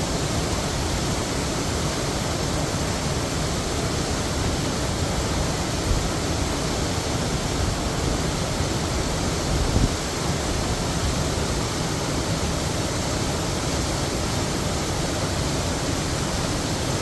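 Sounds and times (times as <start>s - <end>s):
heavy waterfall rushing: 0.0s - 17.0s.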